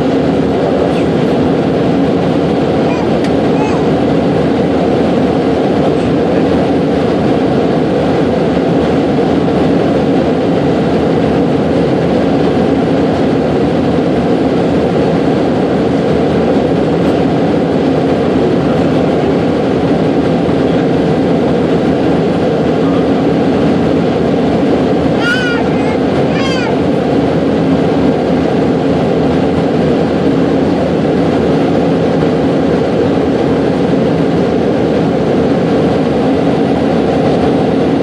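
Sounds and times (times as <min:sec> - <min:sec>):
airliner cabin engine roar: 0:00.0 - 0:38.0.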